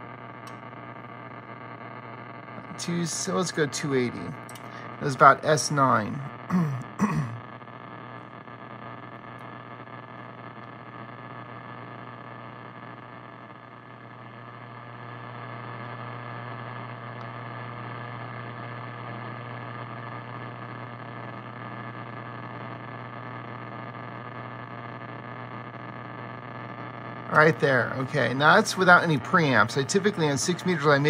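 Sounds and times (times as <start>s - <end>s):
buzzing radio static: 0.0s - 31.0s.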